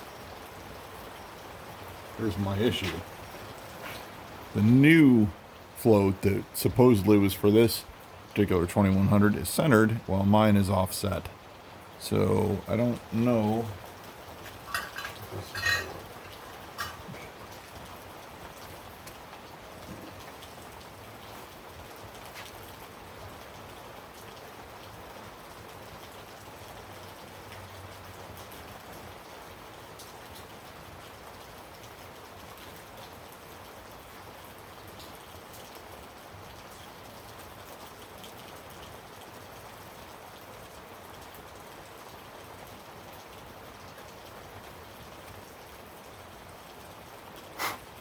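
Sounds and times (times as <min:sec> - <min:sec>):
raindrops ticking: 0:00.0 - 0:48.0
steady rain hiss: 0:00.0 - 0:48.0.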